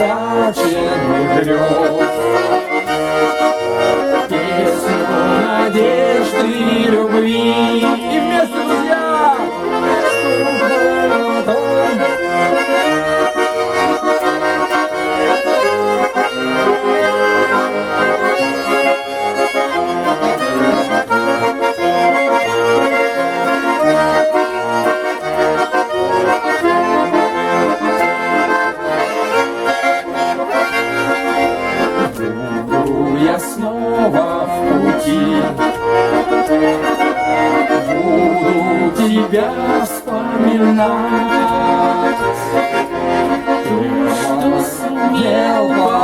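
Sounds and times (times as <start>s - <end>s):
accordions playing: 0.0s - 46.0s.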